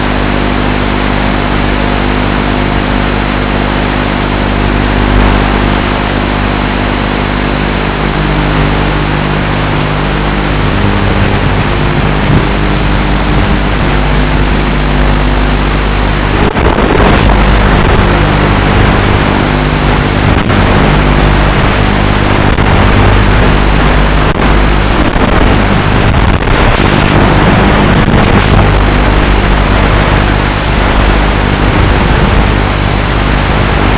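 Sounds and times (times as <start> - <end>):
drone motors and propellers: 0.0 - 33.9
wind noise: 0.1 - 33.9.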